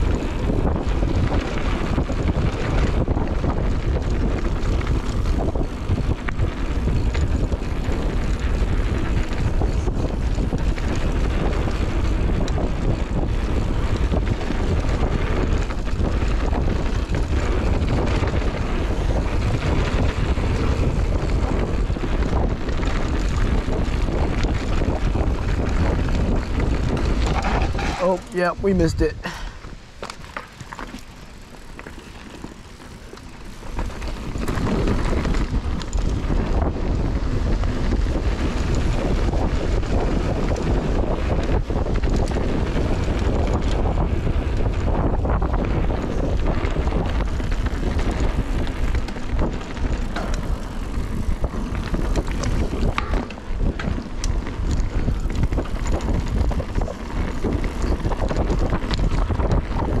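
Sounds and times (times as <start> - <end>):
bike clicks and knocks: 0.0 - 28.6, 29.2 - 60.0
bike tyre noise: 0.0 - 60.0
wind on microphone: 0.0 - 60.0.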